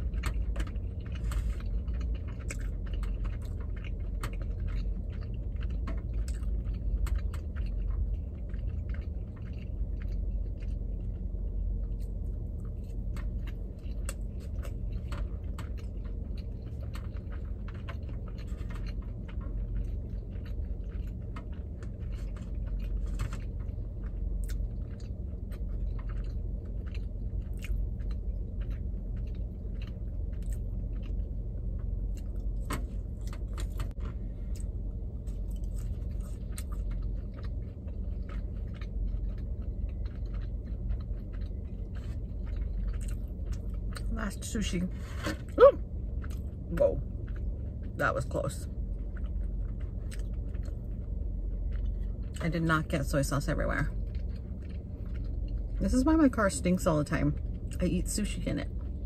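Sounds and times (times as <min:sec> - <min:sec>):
close-miked chewing: 0:00.0 - 0:59.0
low hum: 0:00.0 - 0:59.0.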